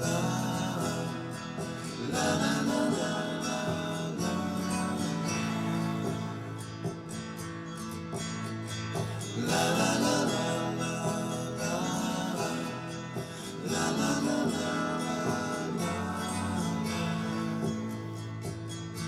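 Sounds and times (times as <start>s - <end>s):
acoustic guitar song: 0.0s - 19.0s.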